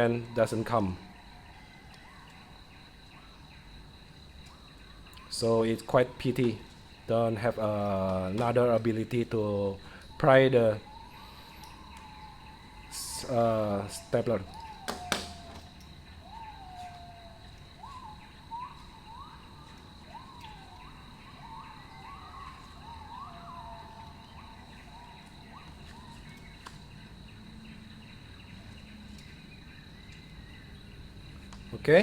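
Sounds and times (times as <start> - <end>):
bird chirping: 0.0 - 32.0
steady background noise: 0.0 - 32.0.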